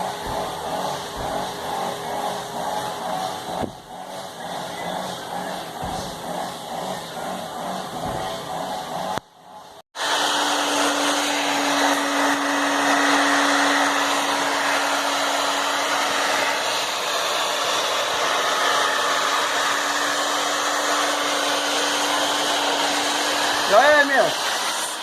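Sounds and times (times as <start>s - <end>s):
hair dryer blowing: 0.0s - 9.2s, 9.9s - 25.0s.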